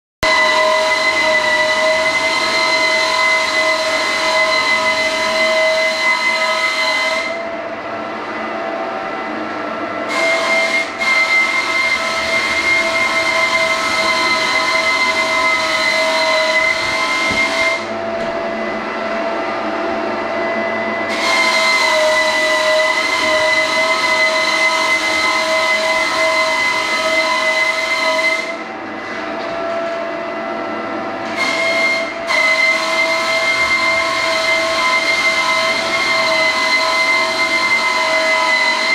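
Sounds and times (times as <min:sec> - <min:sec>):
floor sander motor whine: 0:00.3 - 0:38.9.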